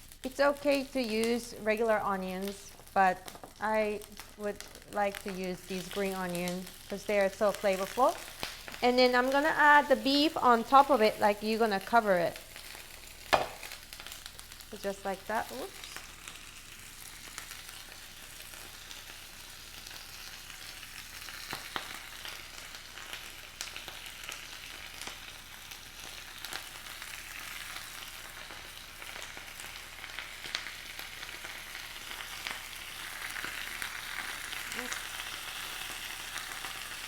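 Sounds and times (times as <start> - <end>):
meat sizzling in a skillet: 0.0 - 37.0.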